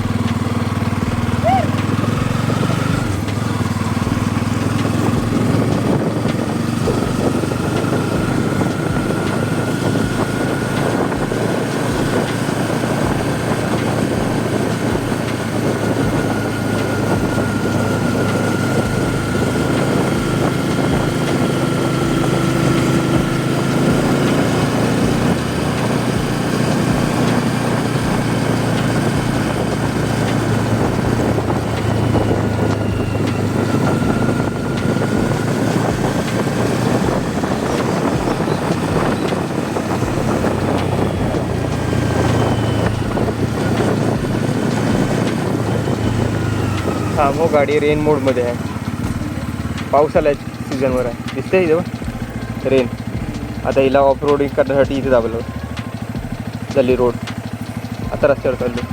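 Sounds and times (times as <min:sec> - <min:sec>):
motorcycle engine cruising: 0:00.0 - 0:58.9
wind and road noise: 0:00.0 - 0:58.9.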